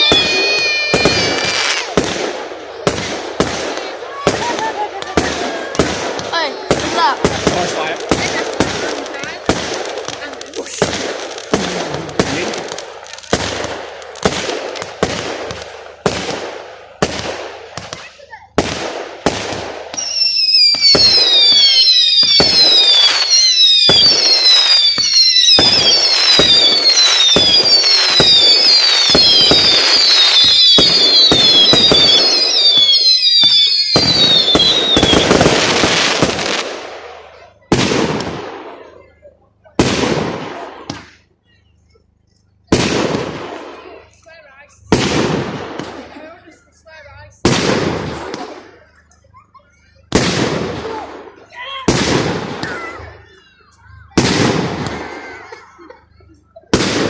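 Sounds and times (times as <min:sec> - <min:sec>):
fireworks crackling: 0:00.0 - 0:57.0
whistling fireworks: 0:00.0 - 0:57.0.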